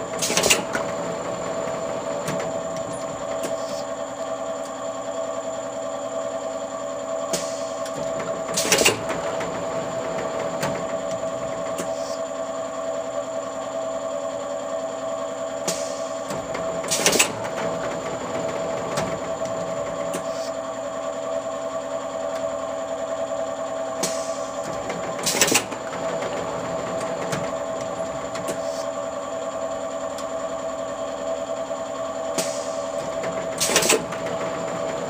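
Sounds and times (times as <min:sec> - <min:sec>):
machine mechanical hum: 0:00.0 - 0:35.0.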